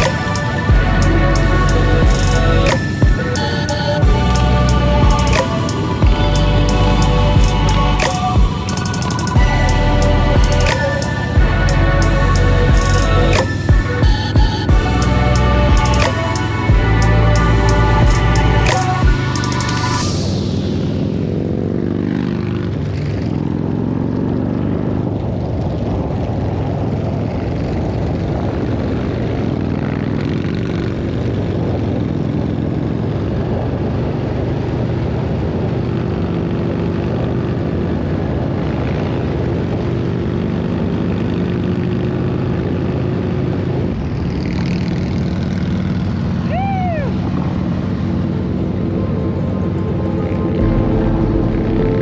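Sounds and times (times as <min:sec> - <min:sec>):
motorcycle engine drone: 0:00.0 - 0:52.0.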